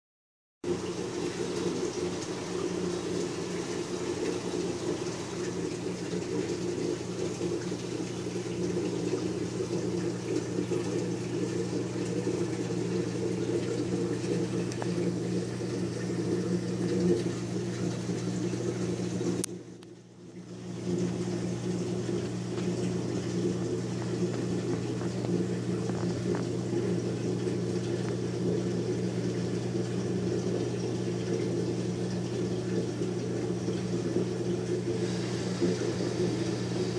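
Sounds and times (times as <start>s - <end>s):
aquarium pump hum: 0.6s - 36.9s
circulating water hiss: 0.6s - 36.9s.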